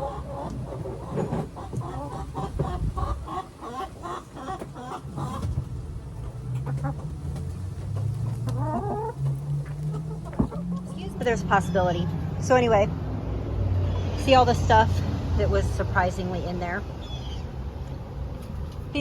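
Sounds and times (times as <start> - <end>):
hens clucking: 0.0 - 18.8.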